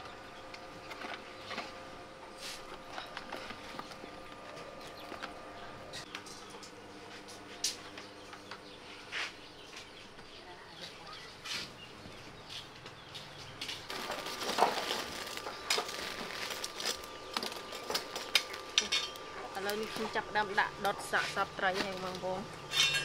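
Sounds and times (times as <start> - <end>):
burning charcoal crackling: 0.0 - 8.4, 12.6 - 23.0.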